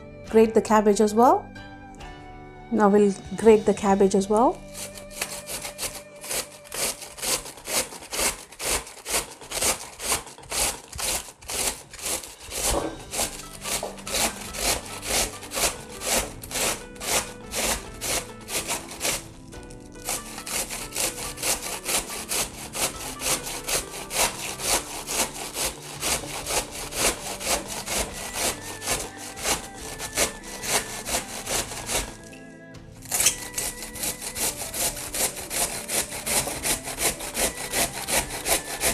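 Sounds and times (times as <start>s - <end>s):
cabbage grated on metal grater: 4.5s - 32.3s, 33.0s - 38.9s.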